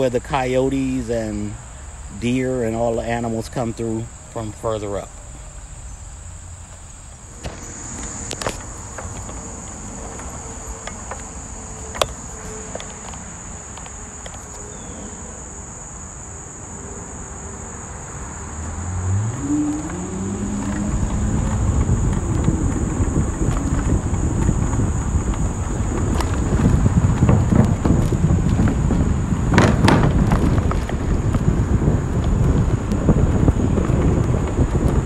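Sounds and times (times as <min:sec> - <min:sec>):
insects trilling: 0:00.0 - 0:35.0
wind and path rumble: 0:00.0 - 0:35.0
electric motor whine: 0:05.2 - 0:15.9, 0:16.6 - 0:35.0.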